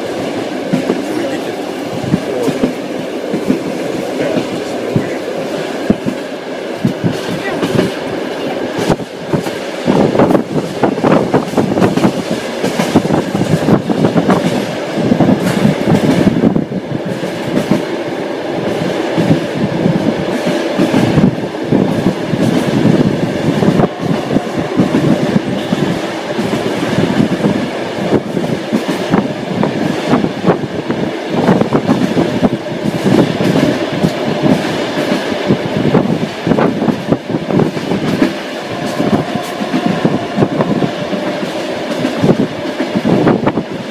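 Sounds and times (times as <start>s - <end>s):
train wheels clattering over rail joints: 1.8s - 18.0s, 18.7s - 43.9s.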